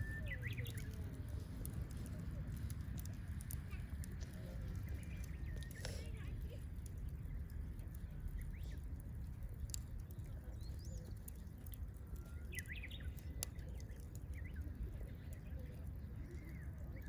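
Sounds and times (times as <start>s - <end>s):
birds chirping: 0.0s - 5.9s, 7.2s - 17.0s
campfire crackling and popping: 0.0s - 17.0s.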